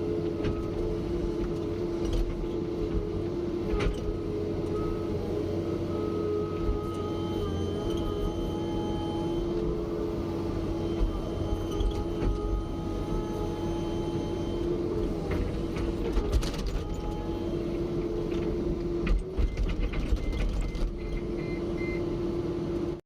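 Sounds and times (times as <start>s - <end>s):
backhoe engine hum: 0.0s - 23.0s.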